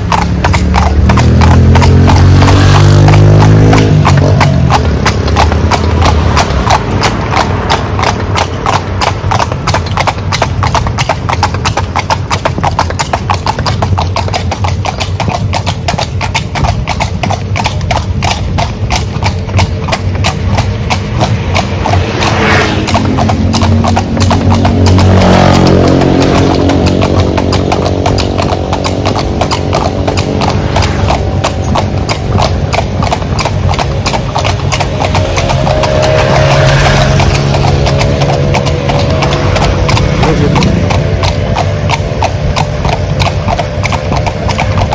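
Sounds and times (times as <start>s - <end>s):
car passing: 0.0s - 44.9s
horse hooves on asphalt: 0.0s - 44.9s.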